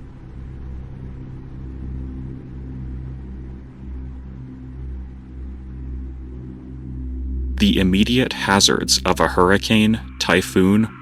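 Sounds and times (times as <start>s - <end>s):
low rumbling drone: 0.0s - 11.0s.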